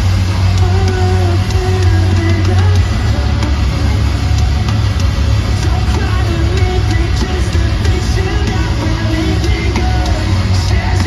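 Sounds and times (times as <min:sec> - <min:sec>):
distorted electric guitar: 0:00.0 - 0:11.0
heavy bass: 0:00.0 - 0:11.0.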